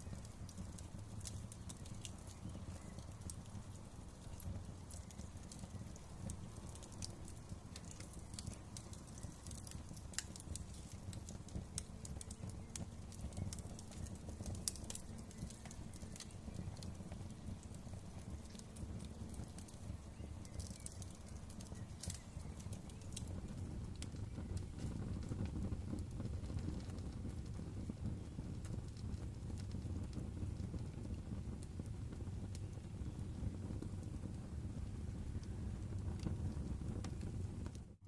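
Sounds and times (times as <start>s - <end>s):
low rumble of burning: 0.0s - 38.0s
wood fire crackling: 0.0s - 38.0s.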